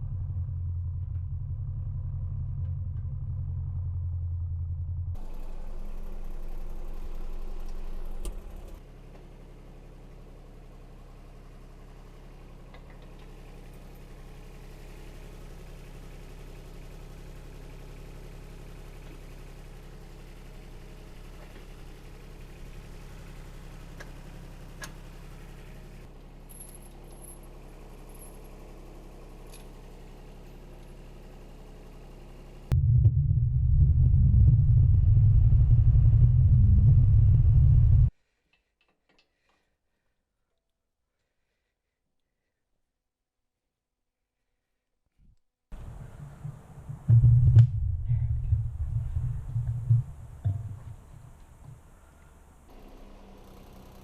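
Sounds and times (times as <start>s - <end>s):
tractor diesel engine running: 0.0s - 38.1s, 45.8s - 54.0s.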